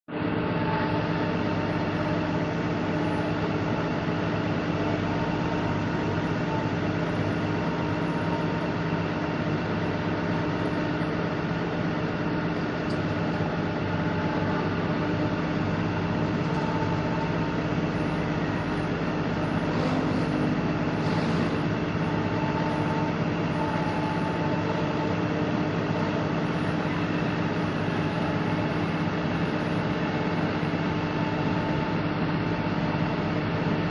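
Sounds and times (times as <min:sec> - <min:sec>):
diesel engine droning: 0:00.1 - 0:33.9.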